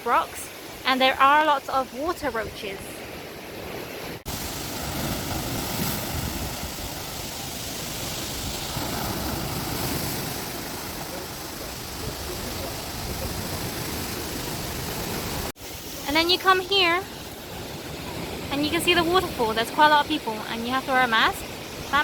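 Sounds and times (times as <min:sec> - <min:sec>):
falling water rushing: 0:00.0 - 0:22.0
sea surf on rocky shore: 0:00.0 - 0:22.0.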